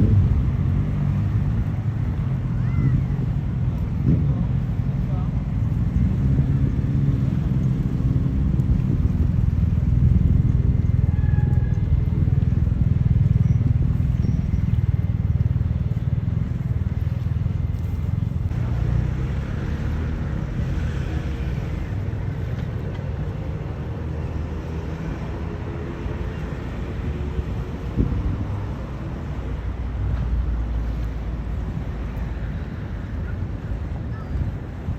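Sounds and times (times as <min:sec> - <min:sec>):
engine low rumble: 0:00.0 - 0:34.9.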